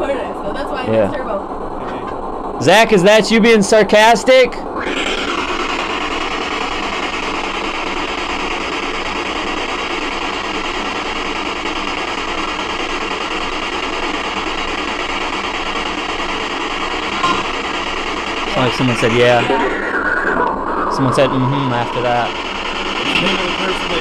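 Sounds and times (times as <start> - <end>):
radio static hiss: 2.7 - 24.0.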